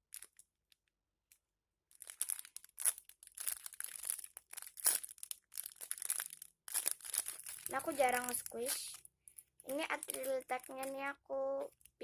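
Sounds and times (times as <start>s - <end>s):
plastic wrapping crinkling: 0.0s - 0.9s, 1.9s - 12.0s.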